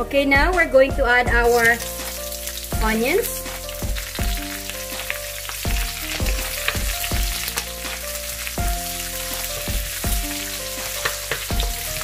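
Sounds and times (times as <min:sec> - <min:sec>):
soft background music: 0:00.0 - 0:12.0
onions sizzling in oil: 0:01.4 - 0:12.0
wooden spoon scraping wok: 0:01.4 - 0:12.0.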